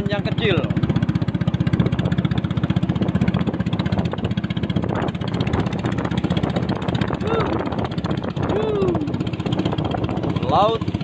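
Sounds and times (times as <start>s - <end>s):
boat engine chugging: 0.0s - 11.0s.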